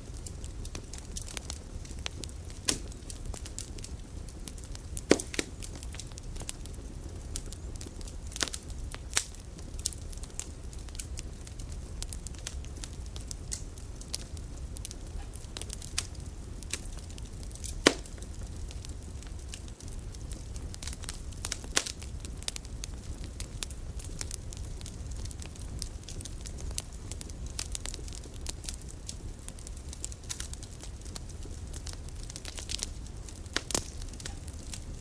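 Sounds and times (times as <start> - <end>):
campfire wood crackling: 0.0 - 35.0
fire snaps: 0.0 - 35.0.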